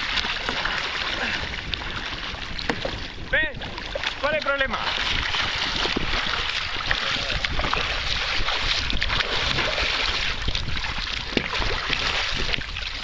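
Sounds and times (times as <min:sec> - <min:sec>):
low wind rumble on microphone: 0:00.0 - 0:13.0
water splashing and sloshing: 0:00.0 - 0:13.0.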